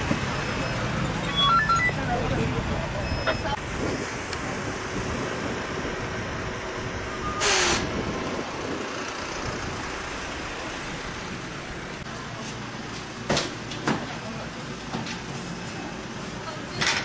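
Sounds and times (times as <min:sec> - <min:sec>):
van engine and road noise: 0:00.0 - 0:17.0.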